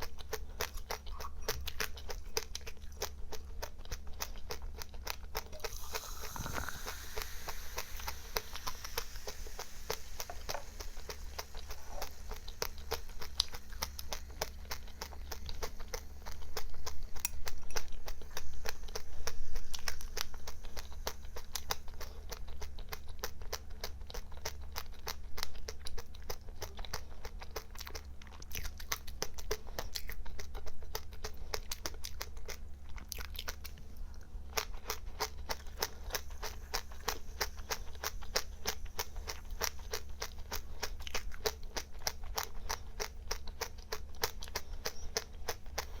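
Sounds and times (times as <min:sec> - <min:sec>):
person chewing crunchy seeds: 0:00.0 - 0:46.0
steady low hum: 0:00.0 - 0:46.0.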